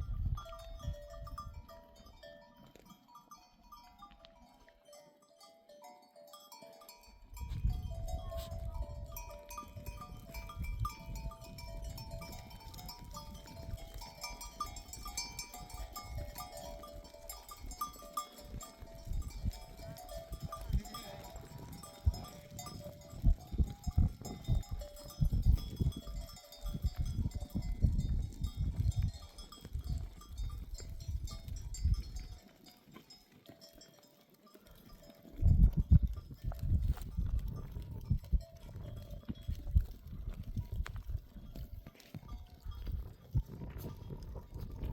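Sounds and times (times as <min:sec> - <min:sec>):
livestock bells clinking: 0:00.0 - 0:44.9.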